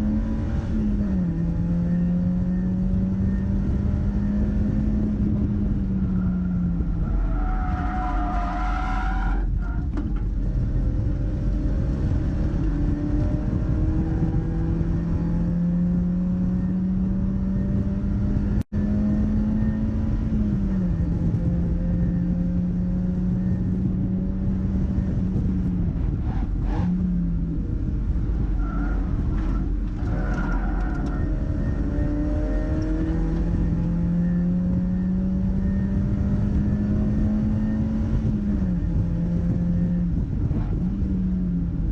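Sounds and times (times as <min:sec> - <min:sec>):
car engine accelerating hard: 0:00.0 - 0:41.9
road and wind rumble: 0:00.0 - 0:41.9.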